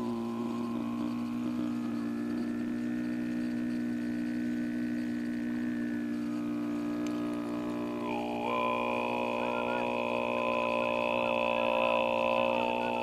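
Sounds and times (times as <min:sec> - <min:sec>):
overtone throat singing: 0:00.0 - 0:13.0.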